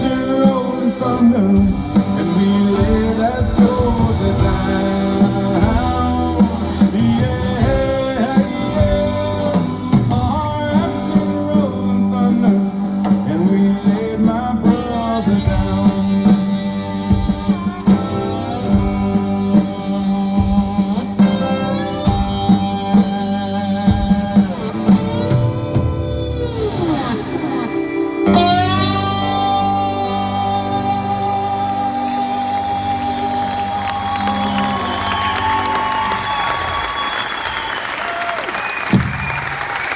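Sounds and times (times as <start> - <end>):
lead guitar bending notes: 0.0 - 36.9
country rock band playing: 0.0 - 39.9.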